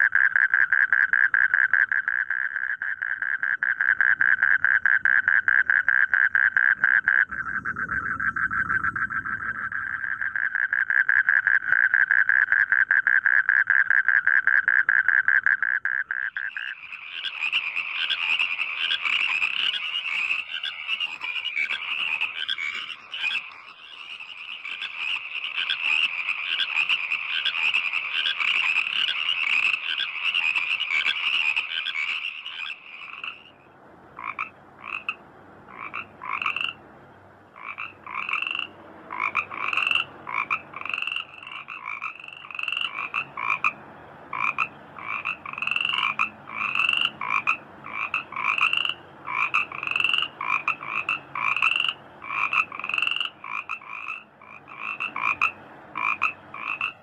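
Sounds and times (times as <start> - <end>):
frogs croaking: 0.0 - 36.8, 37.5 - 57.0.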